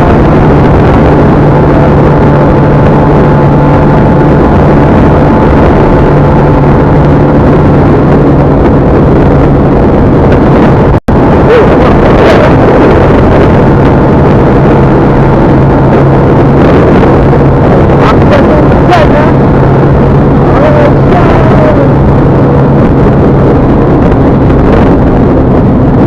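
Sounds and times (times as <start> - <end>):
vehicle running with low hum: 0.0 - 26.0.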